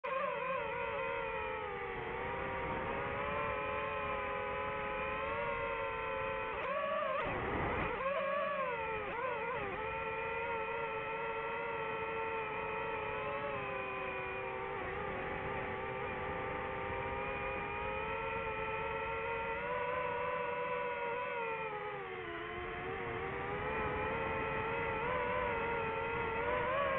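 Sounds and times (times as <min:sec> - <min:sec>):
drone propellers whining: 0:00.0 - 0:26.9.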